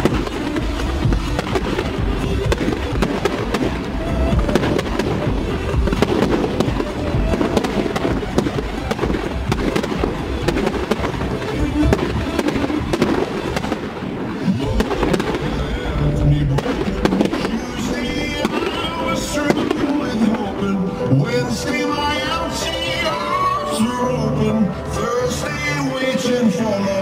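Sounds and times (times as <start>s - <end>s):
pop music: 0.0s - 13.8s, 14.4s - 27.0s
fireworks bangs and crackles: 0.0s - 23.3s.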